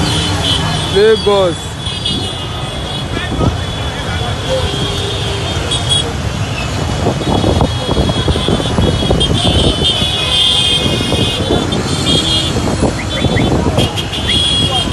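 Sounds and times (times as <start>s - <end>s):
road traffic rumble: 0.0s - 14.9s.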